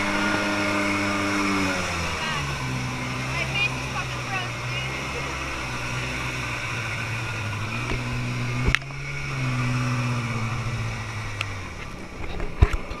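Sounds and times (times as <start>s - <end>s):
jet boat engine running: 0.0s - 13.0s
water noise: 0.0s - 13.0s.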